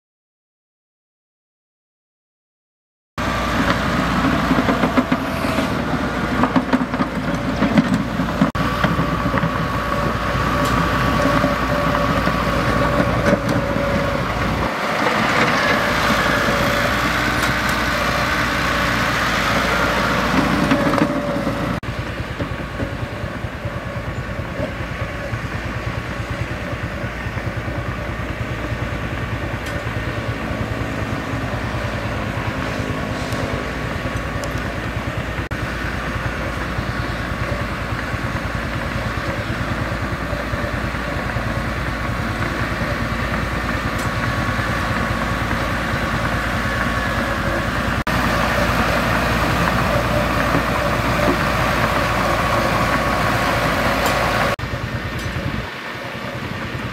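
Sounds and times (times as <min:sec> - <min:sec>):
bulldozer diesel engine: 0:03.2 - 0:56.9.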